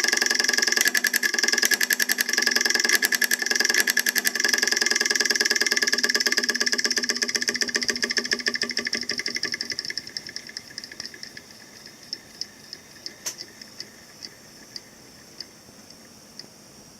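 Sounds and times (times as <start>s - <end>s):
homemade motor clicking: 0.0s - 16.6s.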